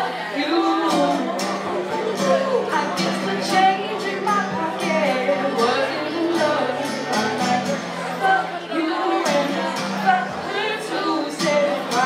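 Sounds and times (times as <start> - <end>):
women singing: 0.0 - 12.0
strummed acoustic guitar: 0.2 - 12.0.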